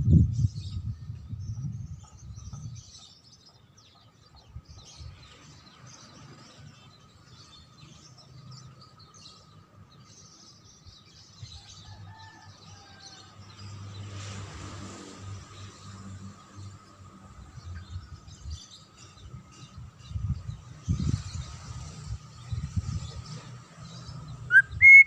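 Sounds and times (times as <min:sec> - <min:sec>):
songbirds twittering: 0:00.0 - 0:14.4, 0:15.1 - 0:25.0.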